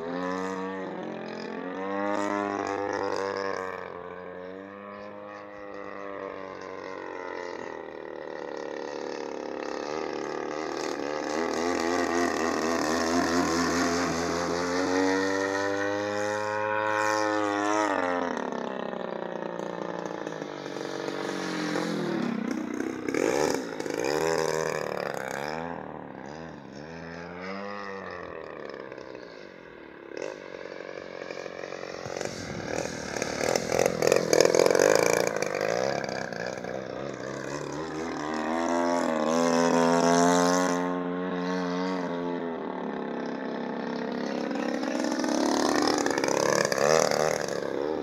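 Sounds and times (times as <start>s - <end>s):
model plane engine in flight: 0.0s - 48.0s.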